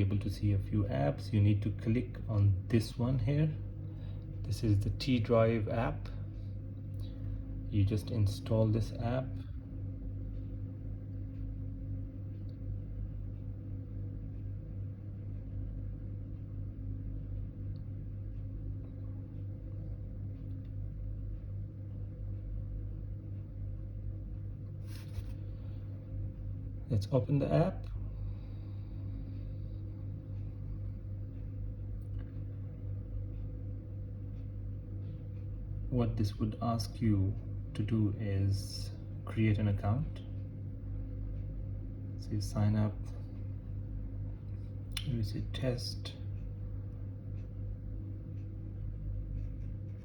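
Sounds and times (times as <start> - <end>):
faint steady tones: 0.0 - 50.0
steady low hum: 0.0 - 50.0.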